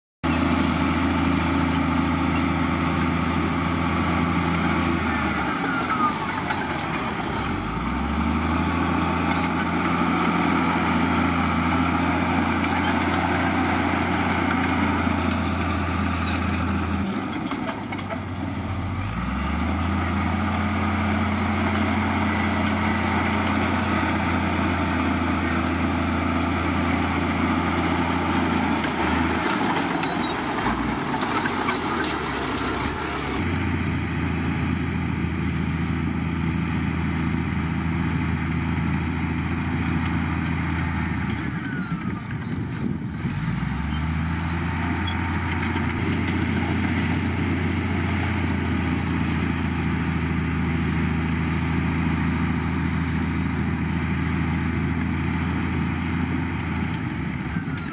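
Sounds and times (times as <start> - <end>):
bulldozer diesel engine running: 0.2 - 57.9.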